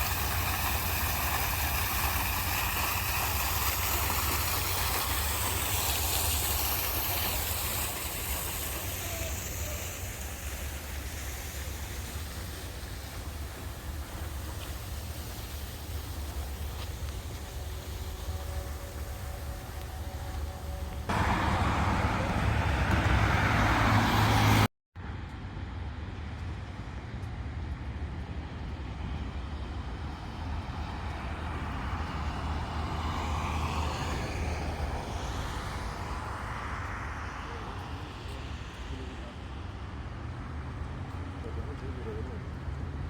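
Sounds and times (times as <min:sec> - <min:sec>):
low traffic rumble: 0:00.0 - 0:43.0
vehicles passing: 0:00.0 - 0:43.0.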